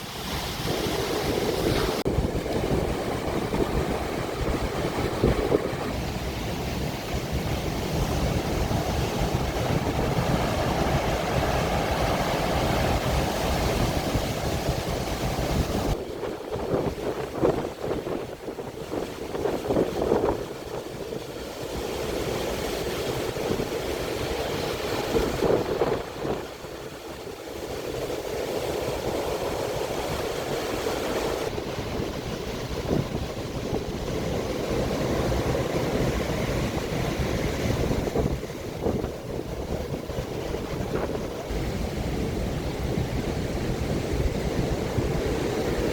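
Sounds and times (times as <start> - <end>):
sea surf breaking: 0.0 - 45.9
wind buffeting microphone: 0.0 - 45.9.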